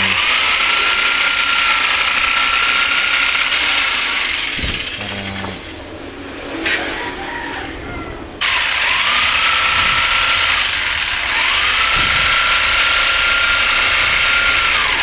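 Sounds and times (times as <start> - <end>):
power tool motor whine: 0.0 - 5.7, 8.4 - 15.0.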